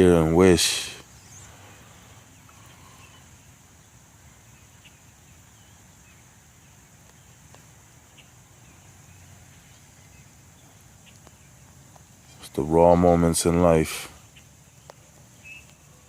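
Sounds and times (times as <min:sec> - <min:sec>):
steady low hiss: 0:00.0 - 0:16.0
faint bird chirps: 0:00.1 - 0:16.0.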